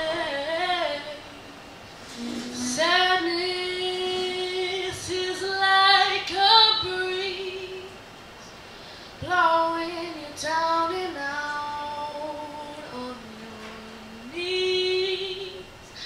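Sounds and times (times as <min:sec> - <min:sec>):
woman singing unaccompanied: 0:00.0 - 0:08.1, 0:09.2 - 0:16.0.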